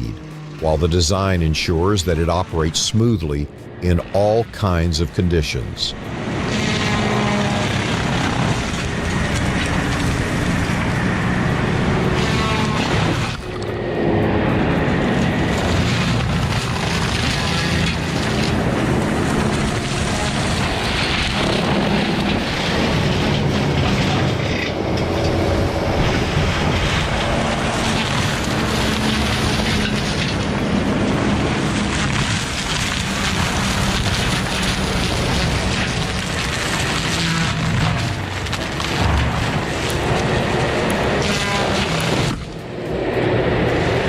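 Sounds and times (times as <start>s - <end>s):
heavy forestry machine running: 0.0s - 44.0s.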